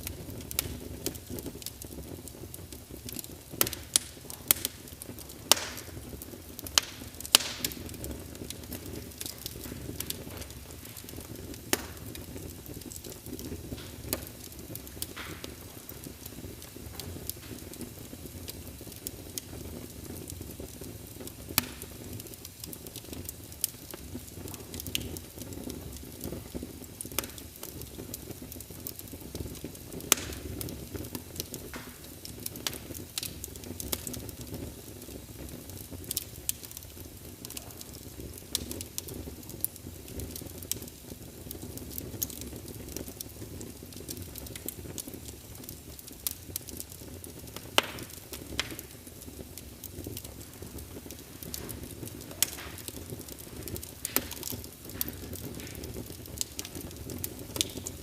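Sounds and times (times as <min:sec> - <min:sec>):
fire popping and crackling: 0:00.0 - 0:58.0
wood fire hissing and rumbling: 0:00.0 - 0:58.0.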